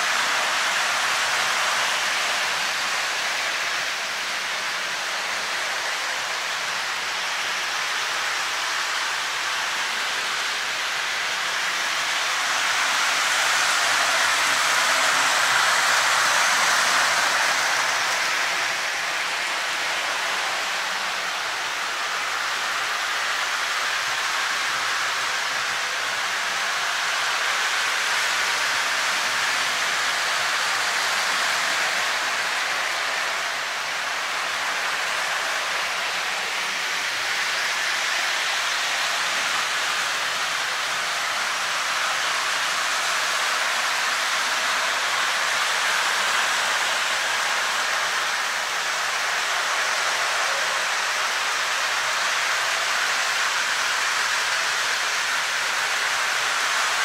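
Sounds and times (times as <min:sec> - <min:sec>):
steady rushing hiss: 0:00.0 - 0:57.0.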